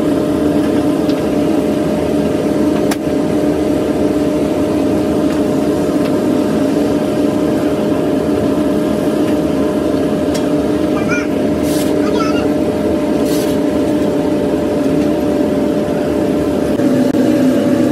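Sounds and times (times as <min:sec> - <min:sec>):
machinery drone: 0:00.0 - 0:17.9.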